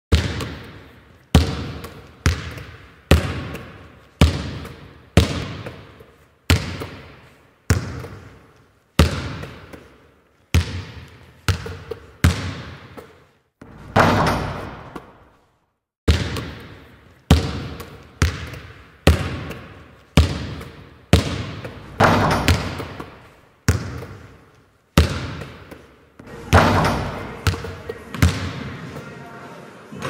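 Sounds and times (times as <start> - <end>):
basketball bouncing on gym floor: 0.1 - 15.3, 16.1 - 28.8.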